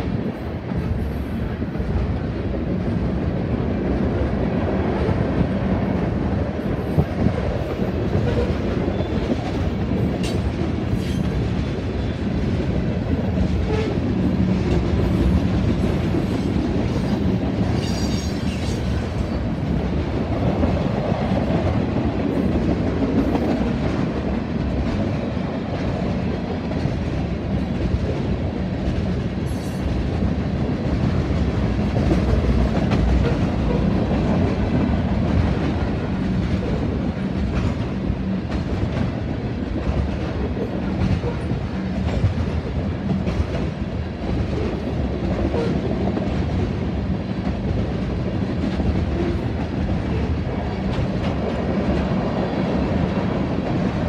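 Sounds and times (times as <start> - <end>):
train wheels rumbling on rail: 0.0 - 54.0
wheels clickety-clack on rail joints: 0.0 - 54.0.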